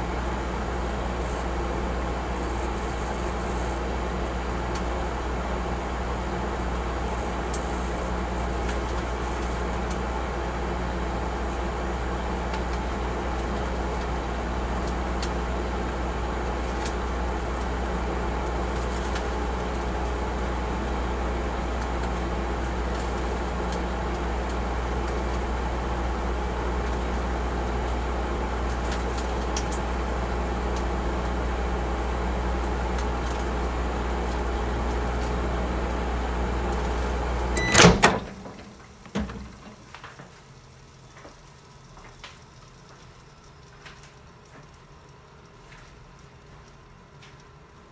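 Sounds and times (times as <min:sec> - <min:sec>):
microwave oven humming: 0:00.0 - 0:47.9.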